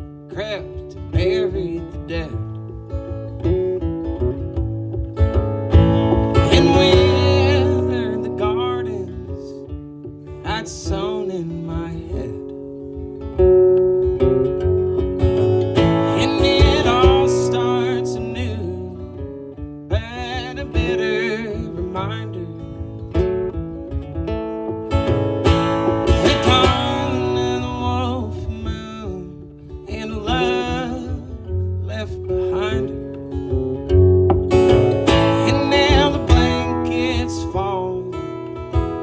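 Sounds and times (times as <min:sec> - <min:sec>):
acoustic band playing a waltz: 0:00.0 - 0:39.0
acoustic guitar strumming: 0:00.0 - 0:39.0.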